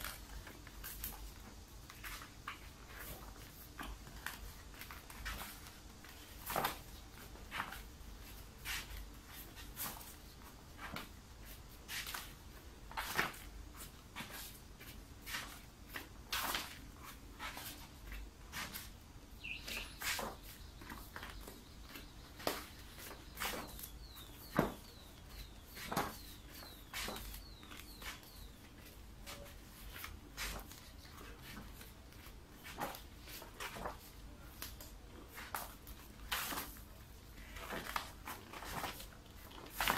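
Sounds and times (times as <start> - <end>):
vinyl sample pages swishing: 0.0 - 39.9.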